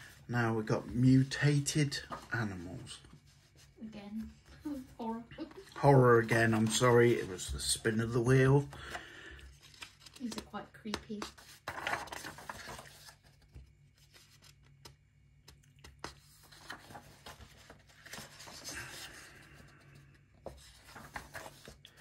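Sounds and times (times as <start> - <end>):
paper pages rustling: 0.0 - 22.0.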